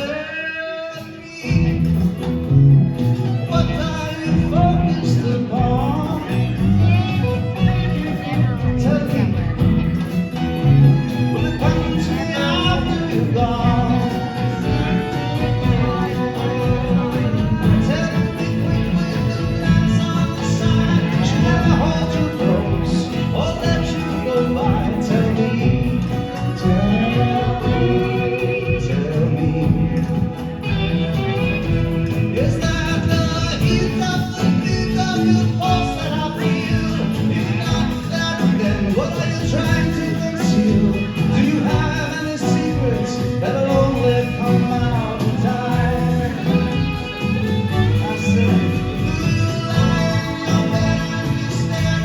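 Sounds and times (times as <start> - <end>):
live folk-rock band playing: 0.0 - 52.0
sliding lead melody: 1.2 - 52.0.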